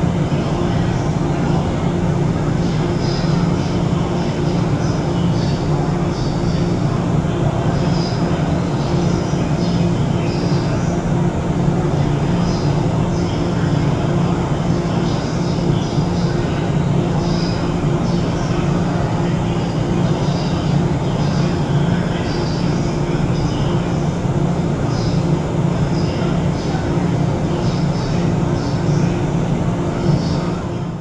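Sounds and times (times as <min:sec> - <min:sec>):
electric train mechanical hum: 0:00.0 - 0:31.0.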